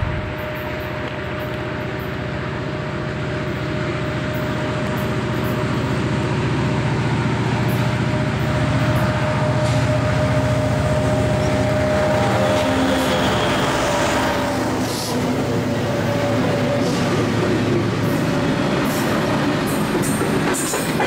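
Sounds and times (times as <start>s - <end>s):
diesel locomotive engine drone: 0.0s - 21.0s
locomotive whine: 0.0s - 21.0s.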